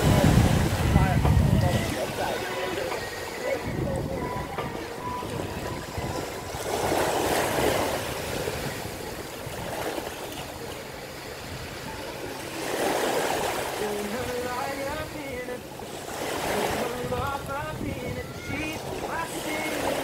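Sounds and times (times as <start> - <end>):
small waves lapping: 0.0 - 20.0.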